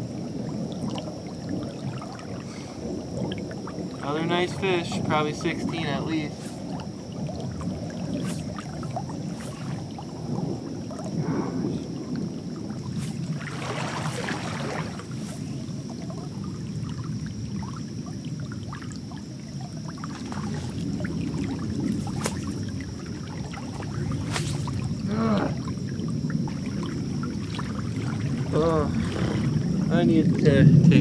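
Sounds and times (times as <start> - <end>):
water sloshing around legs: 0.0 - 31.0
water splashing: 0.0 - 31.0.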